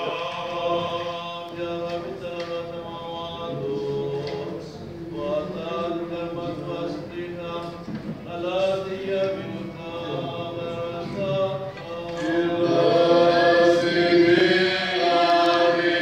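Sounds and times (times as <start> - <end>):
voices chanting on held notes: 0.0 - 16.0.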